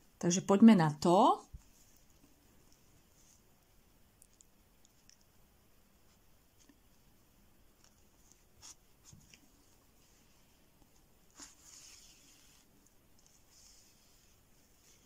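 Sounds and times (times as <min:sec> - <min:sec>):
faint rustles of yarn: 0:01.4 - 0:15.0
soft hiss of thread: 0:01.5 - 0:15.0.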